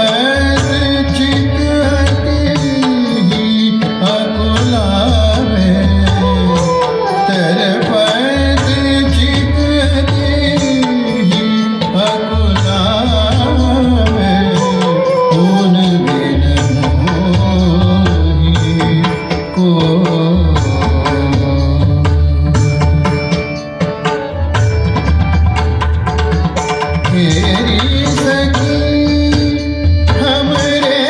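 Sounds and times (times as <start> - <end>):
tabla: 0.0 - 31.0.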